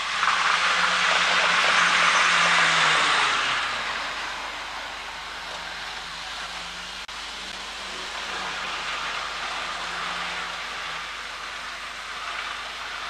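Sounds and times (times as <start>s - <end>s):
model train motor whirring: 0.0s - 13.0s
steady hiss: 0.0s - 13.0s.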